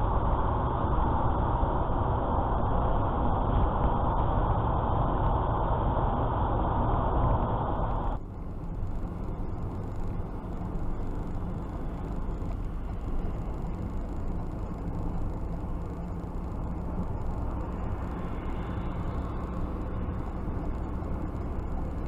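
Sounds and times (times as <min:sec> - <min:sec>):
car road and tyre noise: 0:00.0 - 0:22.0.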